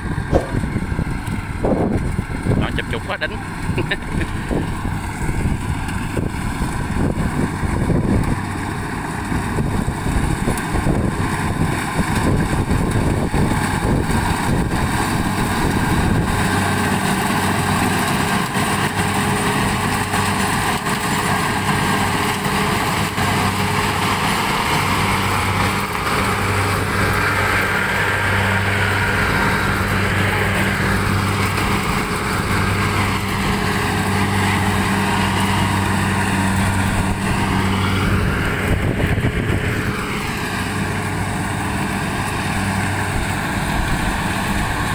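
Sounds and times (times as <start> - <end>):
combine harvester engine: 0.0 - 44.9.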